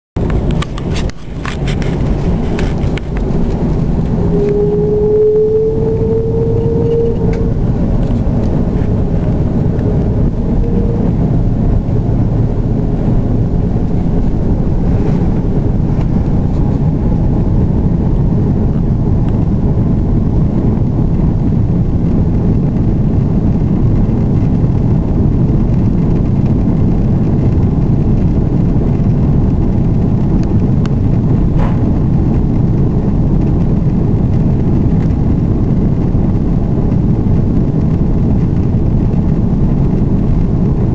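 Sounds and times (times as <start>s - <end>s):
jet engines roaring in cabin: 0.2s - 40.9s
rising engine whine: 0.2s - 40.9s.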